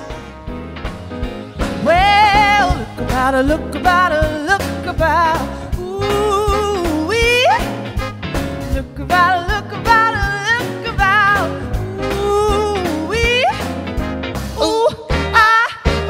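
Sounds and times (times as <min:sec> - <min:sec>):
pop song with female vocal: 0:01.6 - 0:08.0, 0:08.6 - 0:13.7, 0:14.6 - 0:16.0.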